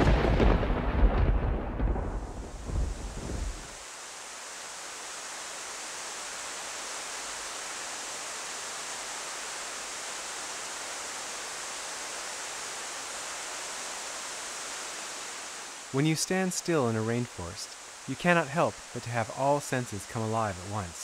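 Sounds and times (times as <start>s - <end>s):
heavy rain on foliage: 0.0s - 21.0s.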